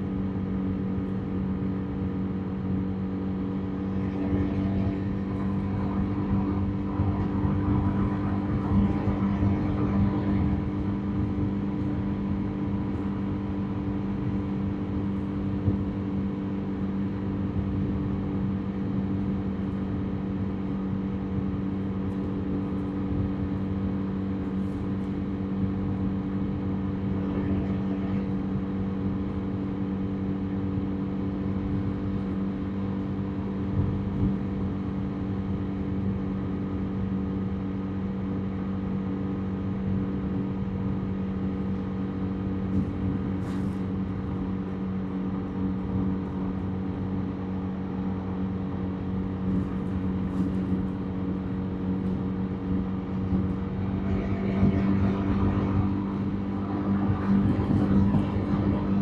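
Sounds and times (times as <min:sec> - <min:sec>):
motorbike engine cruising: 0:00.0 - 0:59.0
road and wind noise: 0:00.0 - 0:59.0.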